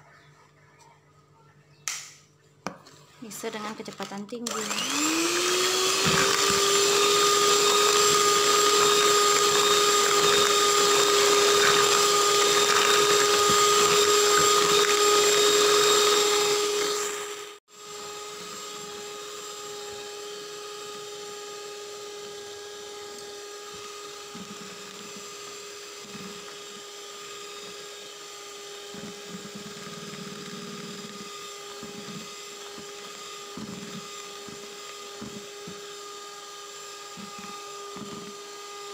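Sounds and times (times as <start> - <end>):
electric hand mixer whining: 3.3 - 38.9.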